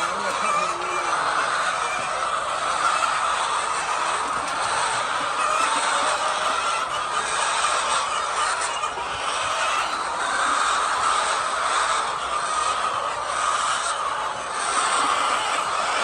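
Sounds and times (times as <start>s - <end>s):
hens clucking and squawking: 0.0s - 16.0s.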